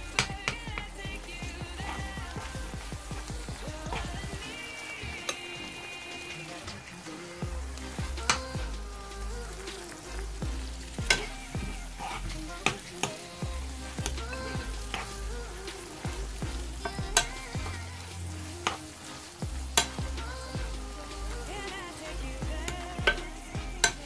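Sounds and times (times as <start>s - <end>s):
meat and onions sizzling: 0.1s - 24.0s.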